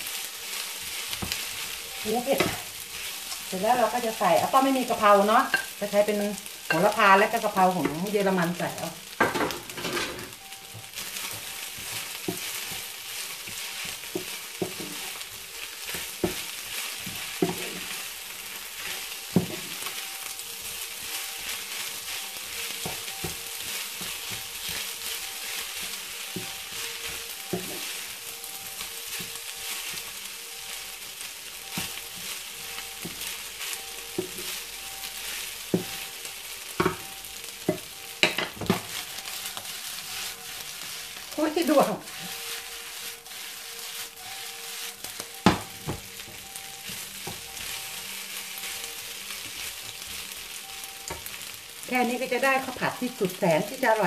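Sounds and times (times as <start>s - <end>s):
rice sizzling in a frying pan: 0.0s - 54.0s.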